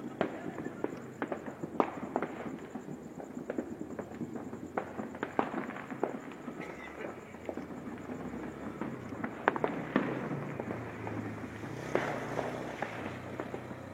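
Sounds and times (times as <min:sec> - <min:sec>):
fireworks crackling: 0:00.0 - 0:13.9
fireworks popping and banging: 0:00.0 - 0:13.9.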